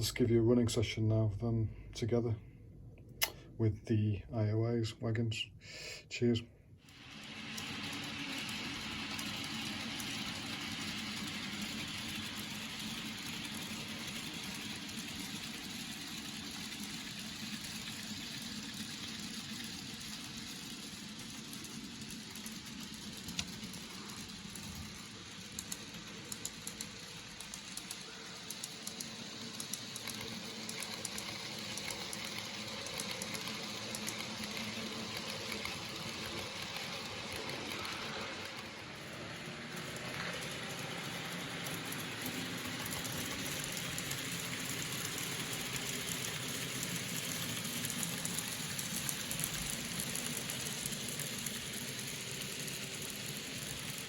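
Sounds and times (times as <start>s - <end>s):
small electric motor running: 6.8s - 54.0s
wheels clicking over rail joints: 6.8s - 54.0s.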